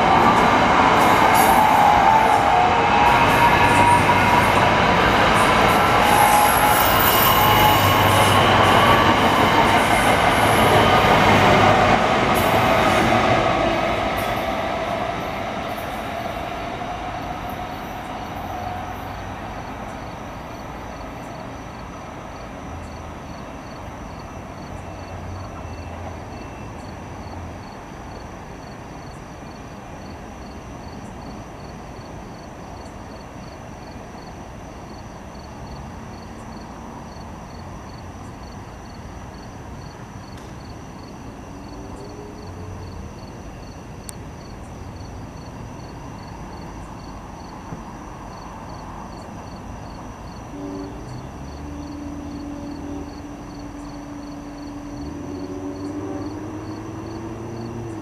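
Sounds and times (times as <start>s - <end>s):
train wheels and rail noise: 0.0s - 58.0s.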